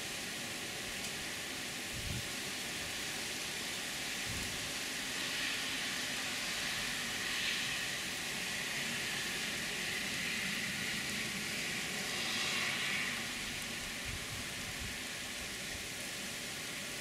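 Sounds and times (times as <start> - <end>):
heavy rain downpour hissing: 0.0 - 17.0.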